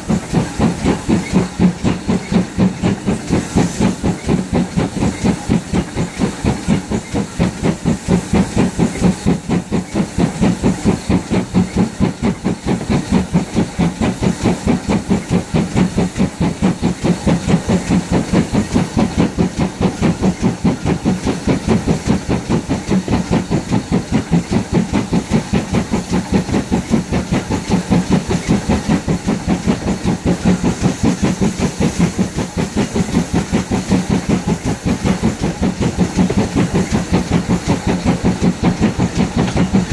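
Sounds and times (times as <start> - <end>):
steam hissing: 0.0 - 39.9
steam locomotive exhaust chuffing: 0.0 - 39.9.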